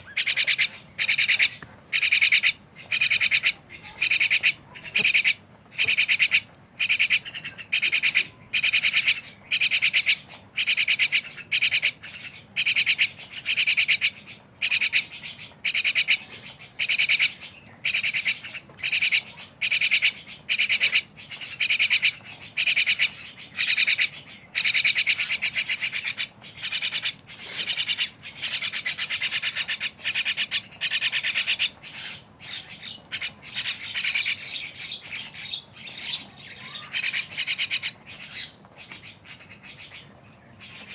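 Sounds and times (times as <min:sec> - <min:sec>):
starlings harsh rasping calls: 0:00.0 - 0:40.9.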